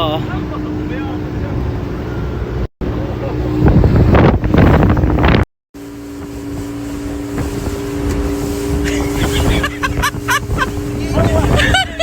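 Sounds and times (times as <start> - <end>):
motorboat engine humming: 0.0 - 12.0
wind rumbling on microphone: 0.4 - 12.0.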